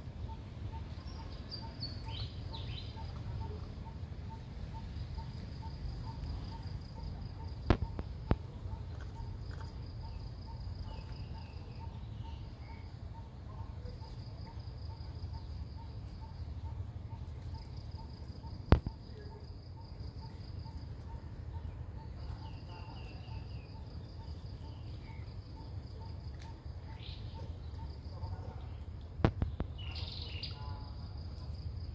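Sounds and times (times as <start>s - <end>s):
pulsing insect chirp: 0.0s - 31.9s.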